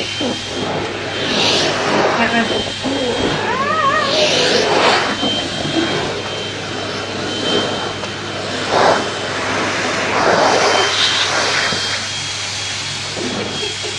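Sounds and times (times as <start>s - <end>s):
vacuum cleaner running with whine: 0.0s - 13.9s.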